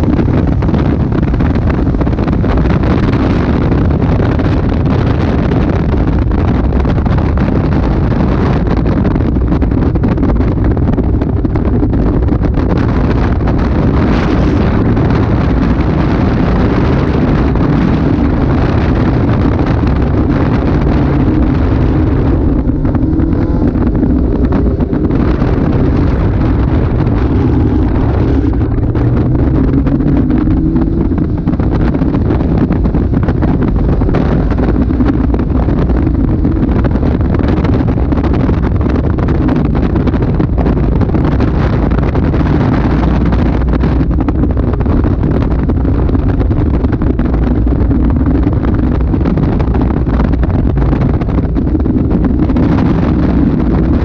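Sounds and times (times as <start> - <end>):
car engine pulling hard: 0.0 - 54.0
wind buffeting microphone: 0.0 - 54.0.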